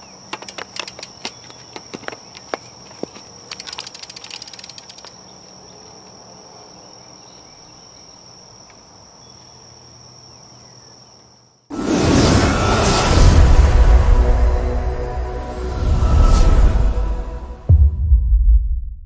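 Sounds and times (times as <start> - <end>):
high-pitched insect trill: 0.0 - 17.3.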